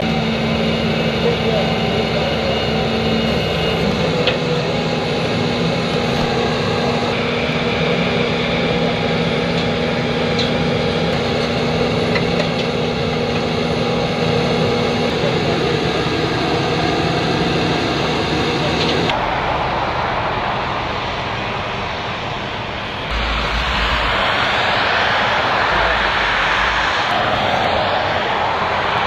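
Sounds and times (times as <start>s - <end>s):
heavy truck engine idling: 0.0s - 29.0s.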